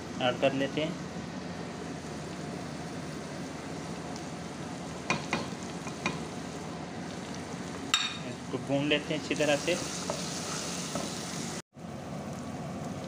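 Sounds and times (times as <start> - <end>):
masala sizzling in pot: 0.6 - 11.6.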